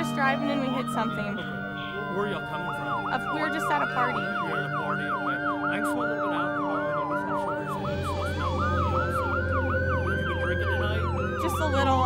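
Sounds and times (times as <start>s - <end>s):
siren wailing slowly: 0.0s - 12.0s
siren yelping fast: 0.0s - 12.0s.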